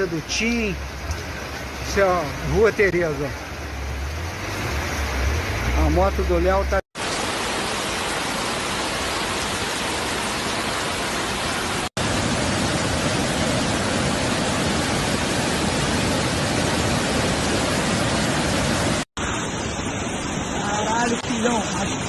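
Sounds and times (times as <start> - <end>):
floodwater rushing: 0.0 - 22.0
heavy rain: 0.0 - 22.0.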